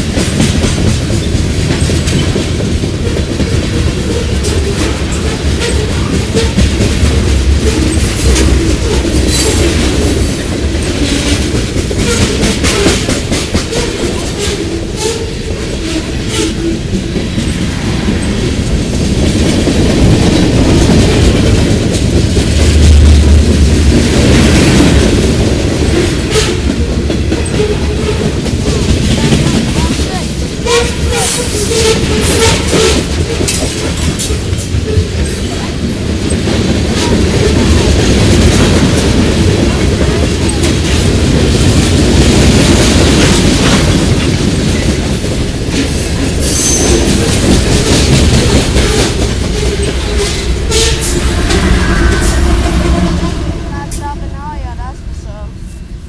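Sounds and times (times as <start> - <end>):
wheels clacking over rail joints: 0.0 - 51.9
freight train cars rolling past: 0.0 - 56.0.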